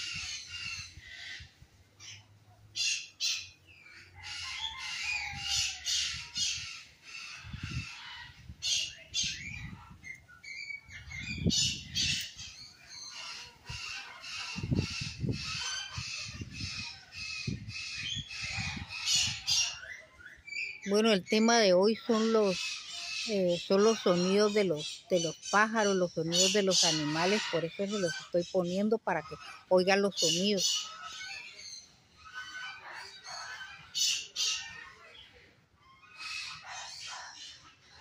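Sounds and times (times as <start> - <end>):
birds squawking and chirping: 0.0 - 38.0.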